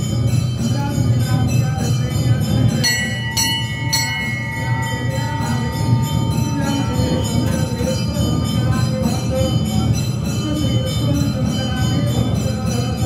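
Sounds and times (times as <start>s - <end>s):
brass hand bell jangling: 0.0s - 13.0s
large bell ringing: 0.0s - 13.0s.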